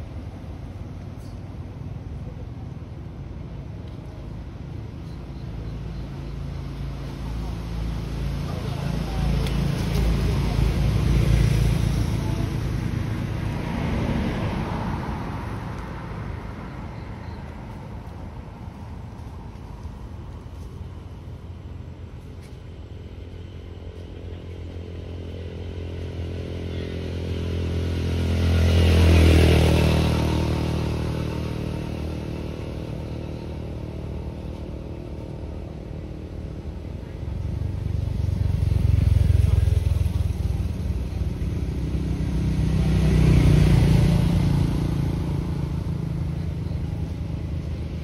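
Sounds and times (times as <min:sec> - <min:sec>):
vehicles passing by: 0:00.0 - 0:48.0.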